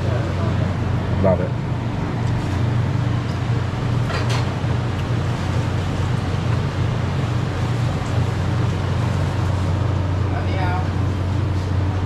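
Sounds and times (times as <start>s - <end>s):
low droning machinery hum: 0.0s - 12.0s.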